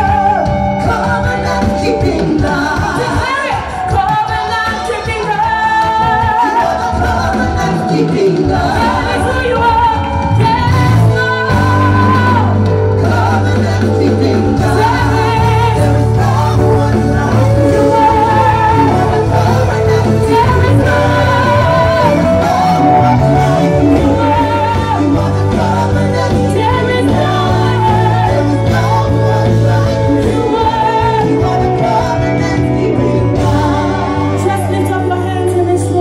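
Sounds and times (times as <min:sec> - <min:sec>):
backing singers: 0:00.0 - 0:36.0
band with held bass notes: 0:00.0 - 0:36.0
woman singing lead vocal: 0:00.0 - 0:36.0.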